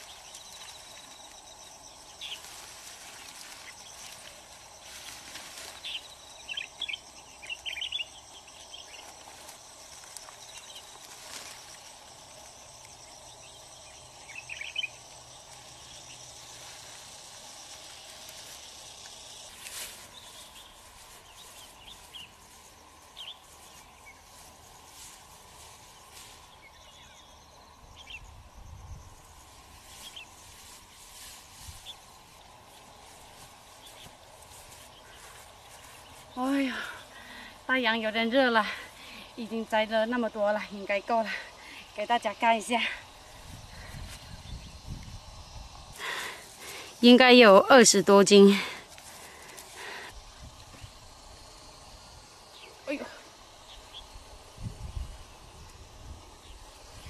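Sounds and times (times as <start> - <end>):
high insect drone: 0.0 - 57.0
rustling of branches and leaves: 0.0 - 57.0.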